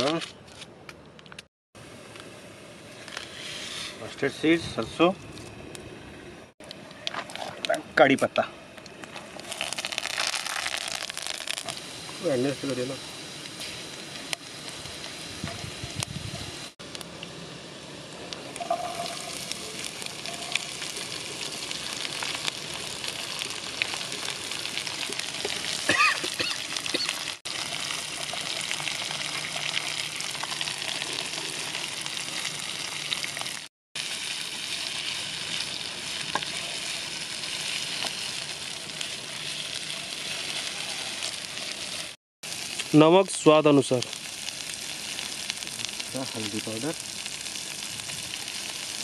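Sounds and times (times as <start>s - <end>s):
vegetables sizzling in hot oil: 9.3s - 49.0s.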